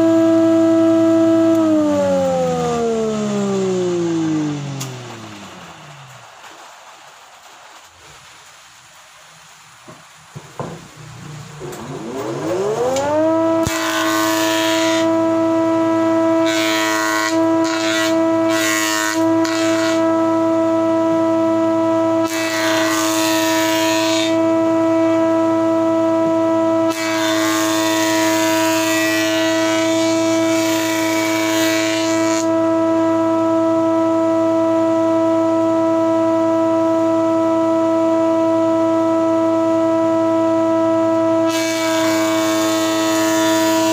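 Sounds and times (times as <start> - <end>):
planer cutting wooden board: 0.0 - 6.2, 10.6 - 43.9
planer motor whining: 0.0 - 6.4, 10.6 - 43.9.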